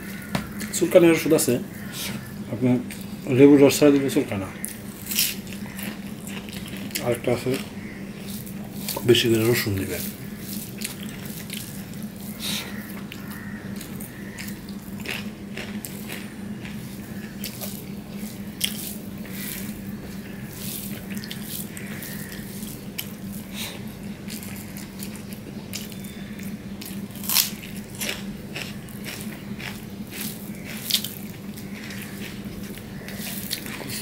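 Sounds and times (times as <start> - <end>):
mouth chewing: 4.0 - 34.0.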